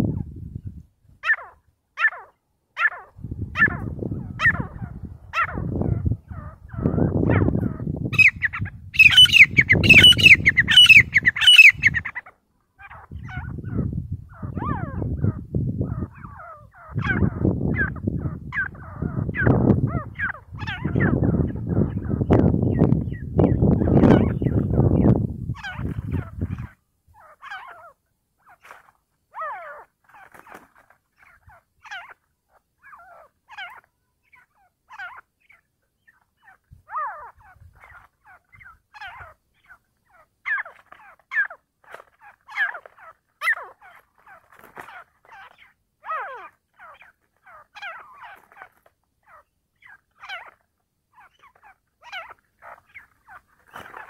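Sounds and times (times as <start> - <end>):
francolin calling: 1.2 - 28.7, 31.2 - 54.0.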